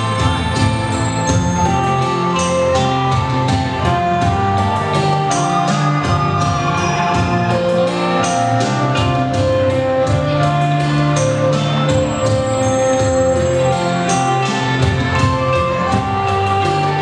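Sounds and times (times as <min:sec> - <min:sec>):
dance music with percussive beat: 0:00.0 - 0:17.0.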